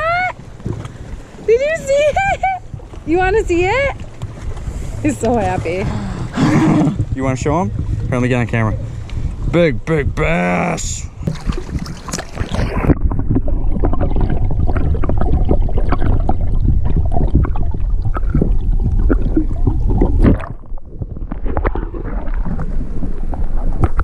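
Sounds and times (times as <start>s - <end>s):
wind buffeting microphone: 0.4s - 24.0s.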